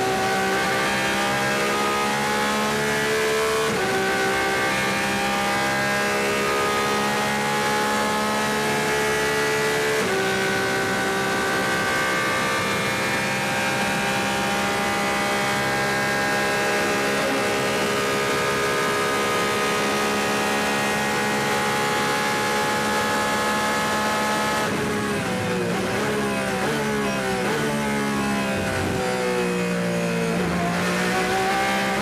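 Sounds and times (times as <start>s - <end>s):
race car engine at high revs: 0.0s - 32.0s.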